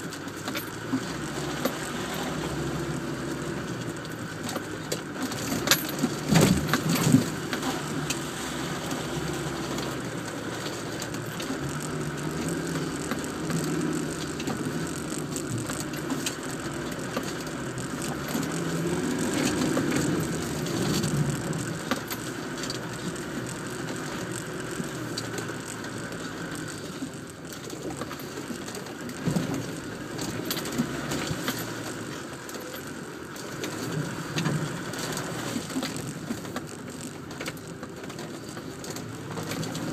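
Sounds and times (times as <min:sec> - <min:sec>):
car engine pulling over rough ground: 0:00.0 - 0:39.9.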